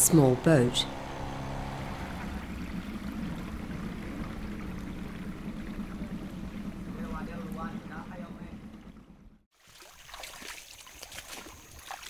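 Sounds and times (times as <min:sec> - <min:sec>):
low boat engine hum: 0:00.0 - 0:11.8
water washing against boat: 0:00.1 - 0:12.0.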